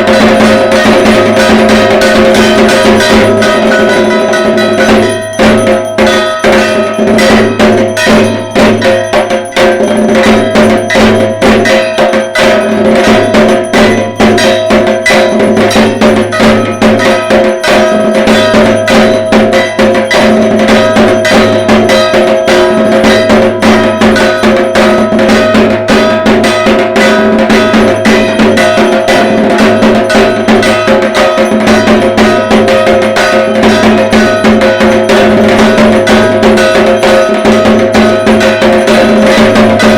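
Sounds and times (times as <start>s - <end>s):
barrel drum beaten with sticks: 0.0s - 39.9s
ringing metallic clang: 0.0s - 39.9s.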